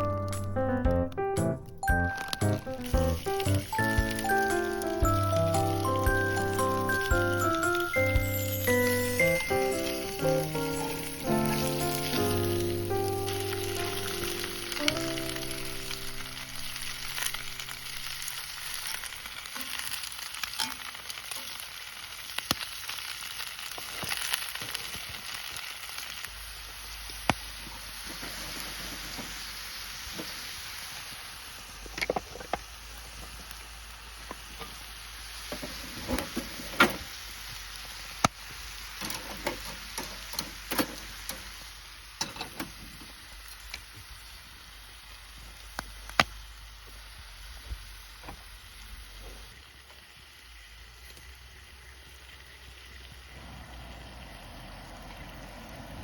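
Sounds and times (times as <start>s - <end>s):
food sizzling in frying: 0.0s - 56.0s.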